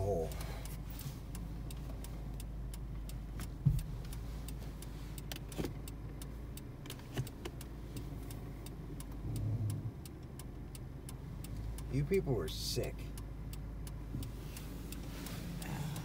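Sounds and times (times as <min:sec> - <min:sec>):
car engine idling: 0:00.0 - 0:16.0
regular ticking: 0:00.0 - 0:16.0.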